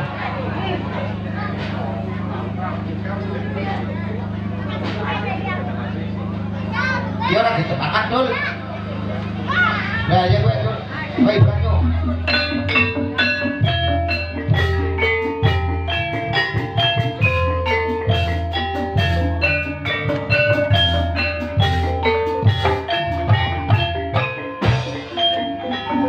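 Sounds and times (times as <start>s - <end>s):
drum strokes: 0.0s - 26.0s
mallet percussion melody: 0.0s - 26.0s
steady low bass: 0.0s - 26.0s.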